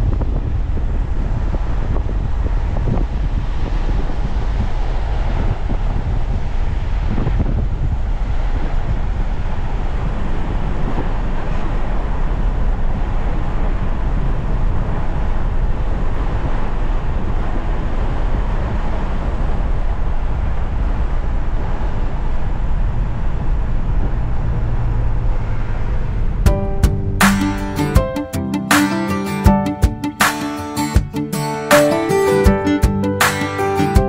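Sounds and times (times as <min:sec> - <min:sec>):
vehicle wind and road noise: 0:00.0 - 0:28.1.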